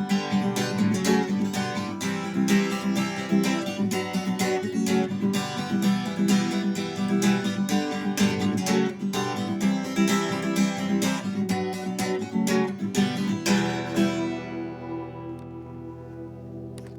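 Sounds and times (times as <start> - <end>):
acoustic guitar strumming chords: 0.0 - 16.9.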